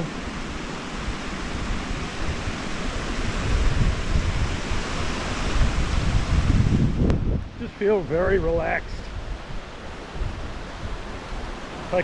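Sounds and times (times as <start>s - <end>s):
stream rushing: 0.0s - 12.0s
wind buffeting microphone: 0.0s - 12.0s.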